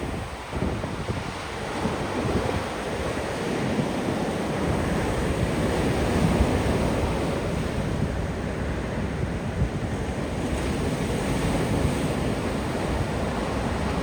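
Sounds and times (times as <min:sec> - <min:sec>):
ocean surf breaking on beach: 0:00.0 - 0:14.0
wind buffeting microphone: 0:00.0 - 0:14.0.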